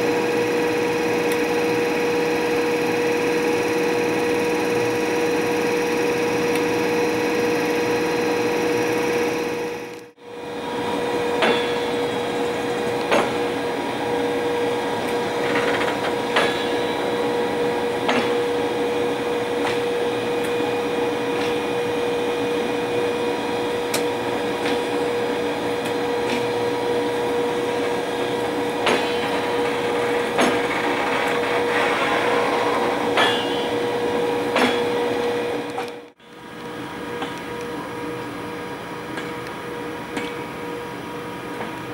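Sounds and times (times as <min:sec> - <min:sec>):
locomotive machine hum: 0:00.0 - 0:41.9.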